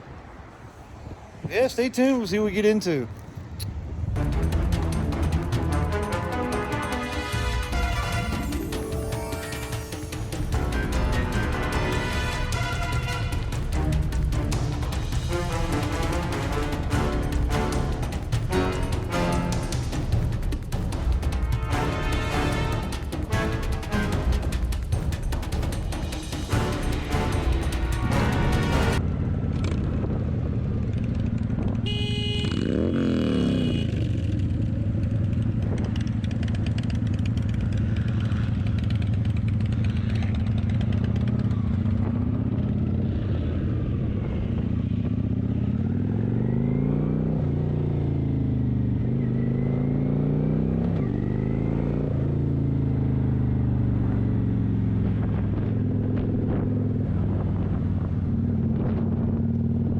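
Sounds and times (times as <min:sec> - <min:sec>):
motorcycle engine revving: 0:10.4 - 0:59.9.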